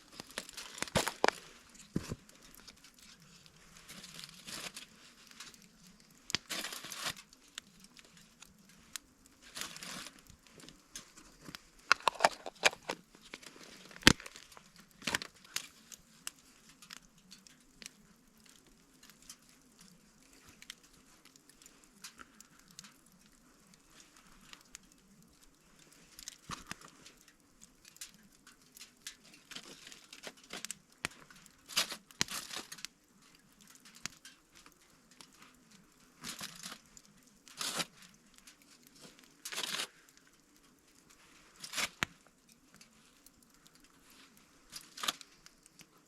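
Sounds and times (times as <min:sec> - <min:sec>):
rustling and crinkling: 0:00.0 - 0:46.0.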